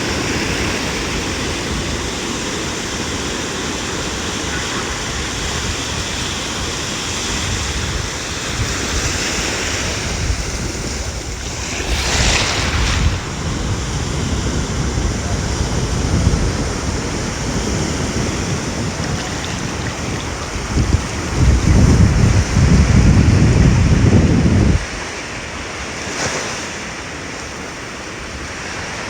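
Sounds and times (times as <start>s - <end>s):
wind buffeting microphone: 0.0s - 25.7s
ocean surf on a beach: 0.0s - 29.0s.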